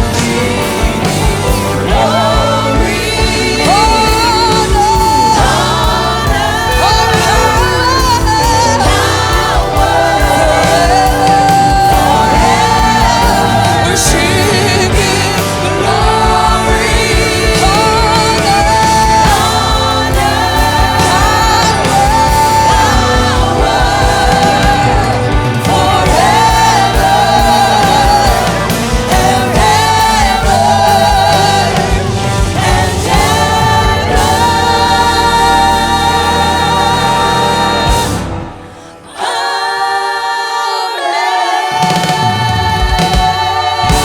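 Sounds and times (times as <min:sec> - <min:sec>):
bass: 0:00.0 - 0:39.1, 0:41.8 - 0:44.0
drums: 0:00.0 - 0:44.0
group singing worship song: 0:00.0 - 0:44.0.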